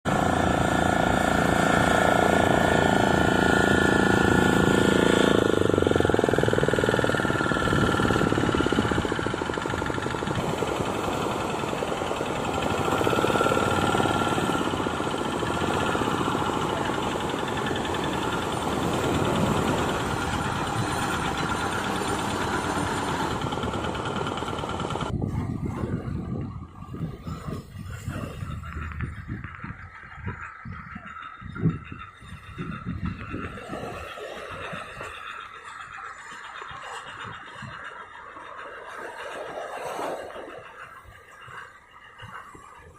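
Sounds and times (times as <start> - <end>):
tractor diesel engine knocking: 0.0 - 42.9.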